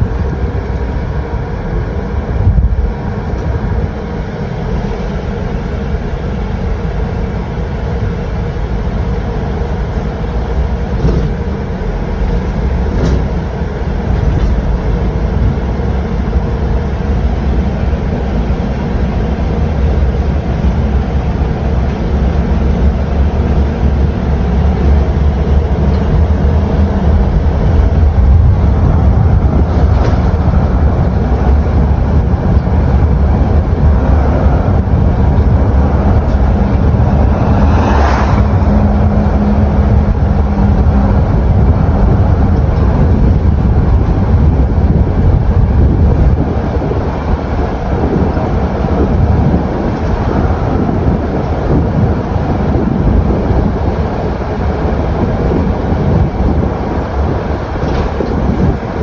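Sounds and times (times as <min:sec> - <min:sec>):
vehicle rumbling in motion: 0:00.0 - 0:59.0.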